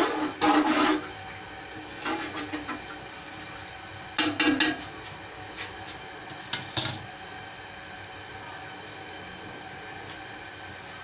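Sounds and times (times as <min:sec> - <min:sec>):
pot hissing on stove: 0:00.0 - 0:11.0.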